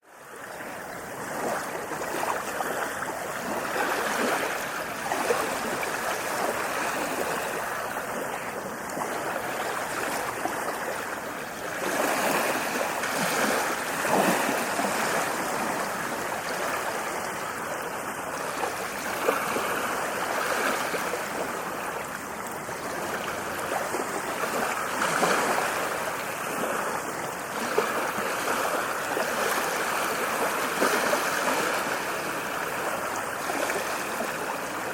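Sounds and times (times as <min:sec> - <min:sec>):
ocean waves on shore: 0:00.0 - 0:34.9.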